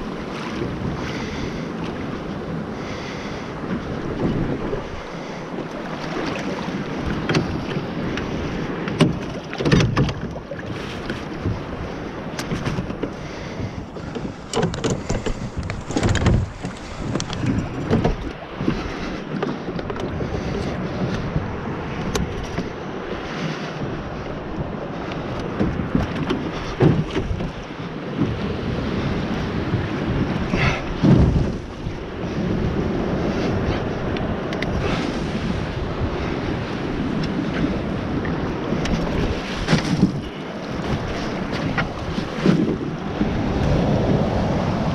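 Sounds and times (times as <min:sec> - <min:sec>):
rushing water: 0:00.0 - 0:44.9
wind buffeting microphone: 0:00.0 - 0:44.9.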